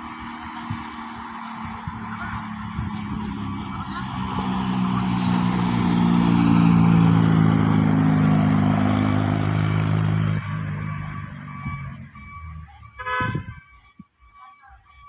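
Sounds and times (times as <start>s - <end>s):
truck engine labouring: 0.0s - 15.0s.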